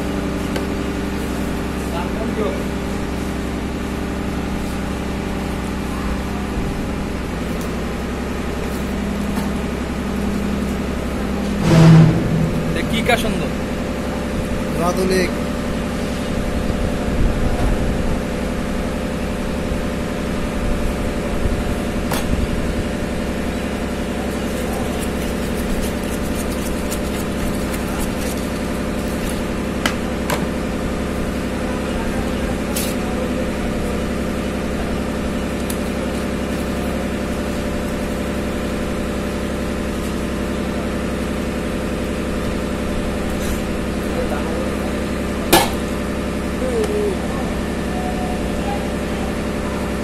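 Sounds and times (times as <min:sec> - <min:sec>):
steady mechanical drone: 0:00.0 - 0:50.0.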